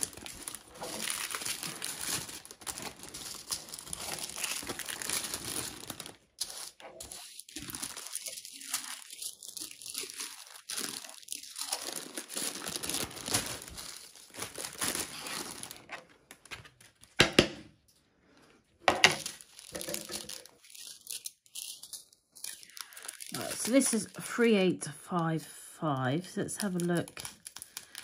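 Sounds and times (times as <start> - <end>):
plastic bag crinkling and tearing: 0.0 - 17.2, 19.0 - 24.7, 26.2 - 28.0.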